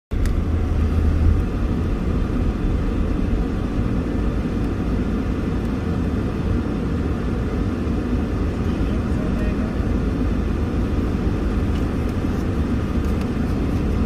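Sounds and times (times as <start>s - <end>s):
road noise: 0.1s - 14.0s
vehicle engine rumble: 0.1s - 14.0s.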